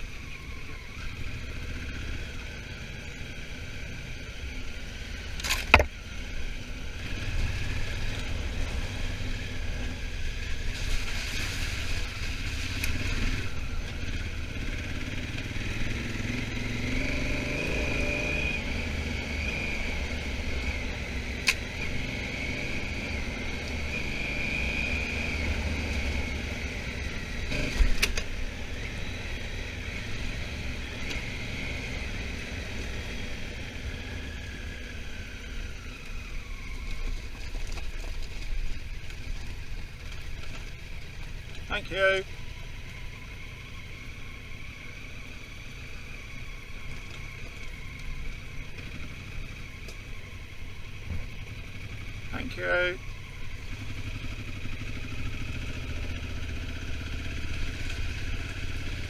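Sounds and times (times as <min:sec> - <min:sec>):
motorcycle engine running: 0:00.0 - 0:35.2, 0:36.7 - 0:59.0
wind and road noise: 0:00.0 - 0:59.0.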